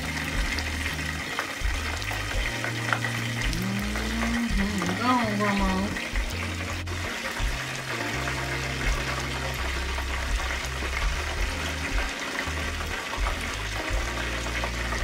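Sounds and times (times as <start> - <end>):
hot oil sizzling in a skillet: 0.0 - 15.0.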